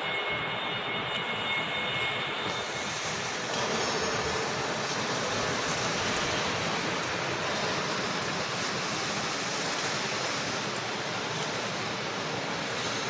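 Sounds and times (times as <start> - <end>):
factory background hiss: 0.0 - 13.0.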